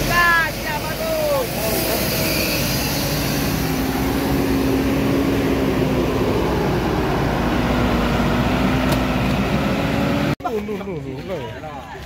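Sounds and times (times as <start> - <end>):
truck engine running: 0.0 - 10.4.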